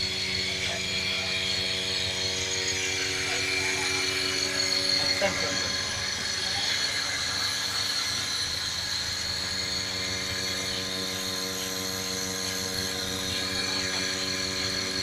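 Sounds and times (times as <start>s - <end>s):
milking machine vacuum pump humming: 0.0s - 15.0s.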